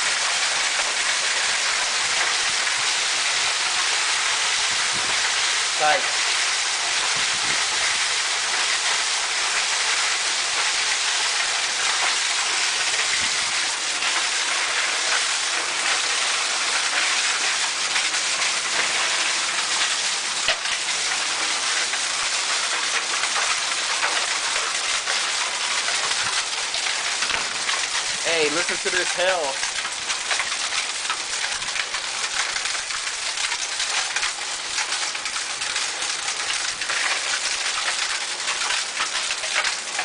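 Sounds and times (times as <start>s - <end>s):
hail and rain pattering: 0.0s - 40.0s
hailstones ticking on surfaces: 0.0s - 40.0s.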